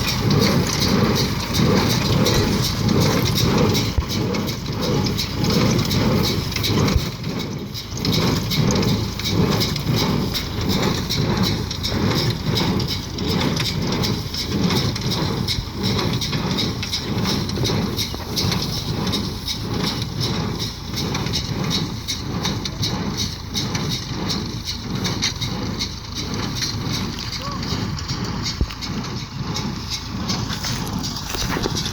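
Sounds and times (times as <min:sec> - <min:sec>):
continuous machine noise: 0:00.0 - 0:31.9.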